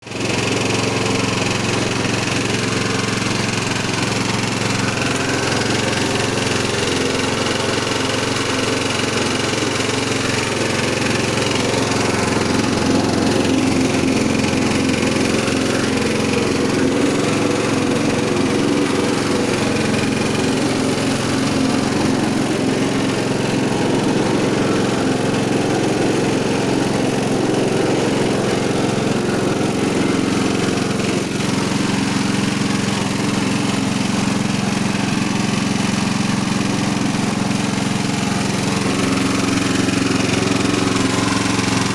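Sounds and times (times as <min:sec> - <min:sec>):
press machine motor running: 0:00.1 - 0:41.9.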